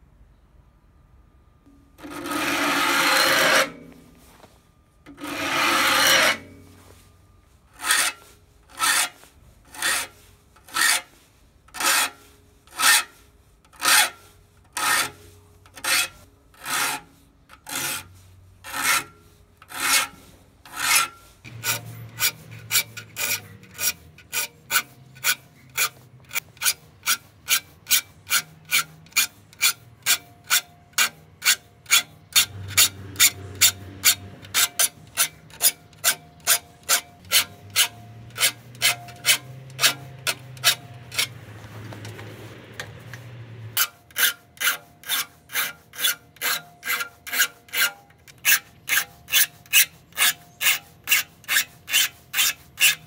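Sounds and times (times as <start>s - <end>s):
file rasping on saw teeth: 2.0s - 3.8s, 5.1s - 6.5s, 7.8s - 42.3s, 43.2s - 53.0s.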